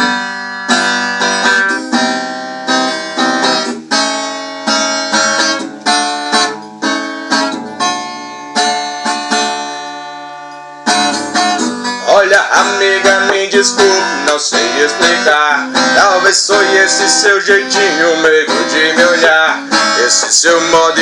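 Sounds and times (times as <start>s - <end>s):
acoustic guitar chords: 0.0s - 21.0s.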